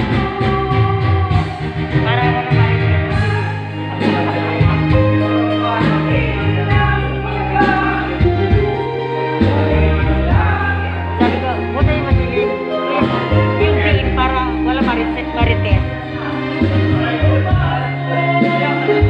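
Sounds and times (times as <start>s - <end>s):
held bass notes: 0.0s - 19.0s
loud music with singing: 0.0s - 19.0s.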